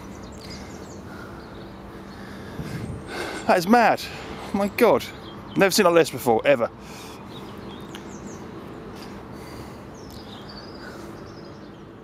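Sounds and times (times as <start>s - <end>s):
outdoor background rush: 0.0s - 12.0s
small birds chirping: 0.0s - 12.0s.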